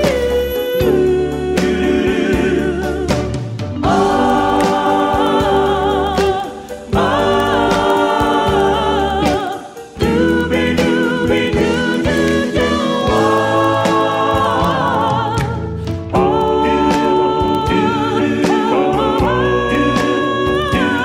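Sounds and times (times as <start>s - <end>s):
song with sung vocals: 0.0s - 21.0s
steady bass line: 0.0s - 21.0s.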